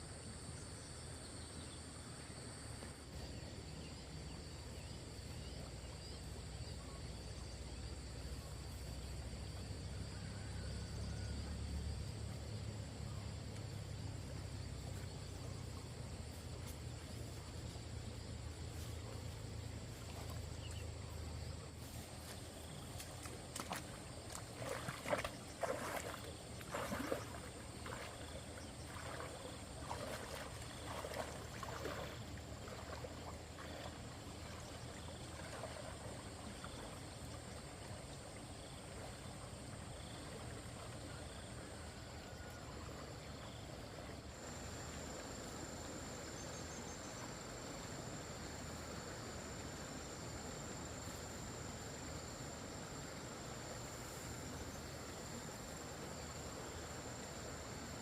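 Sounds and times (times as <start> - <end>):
insects chirring: 0.0 - 58.0
stream water running: 0.0 - 58.0.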